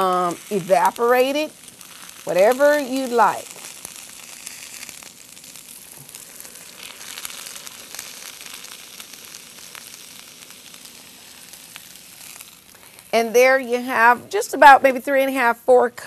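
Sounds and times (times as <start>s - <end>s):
scattered crackles: 0.0s - 14.8s
butter and onions sizzling: 0.0s - 16.0s.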